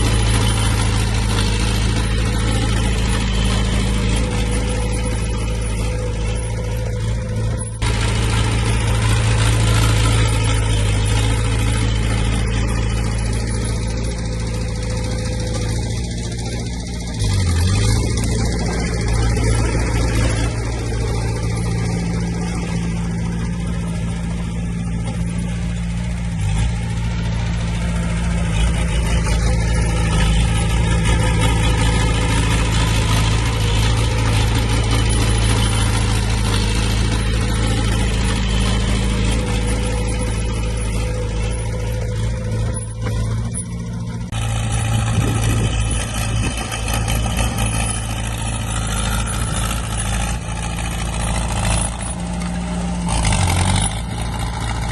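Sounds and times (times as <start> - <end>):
diesel earthmoving machinery drone: 0.0 - 54.9.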